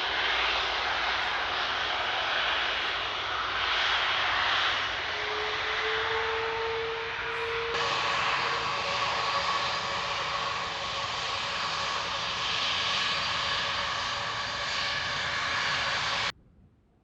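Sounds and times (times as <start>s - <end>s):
jet engine whine: 0.0s - 16.4s
jet engines roaring: 0.0s - 16.4s.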